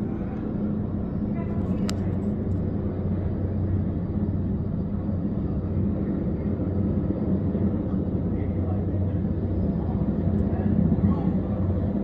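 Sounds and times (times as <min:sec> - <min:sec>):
helicopter droning overhead: 0:00.0 - 0:12.0.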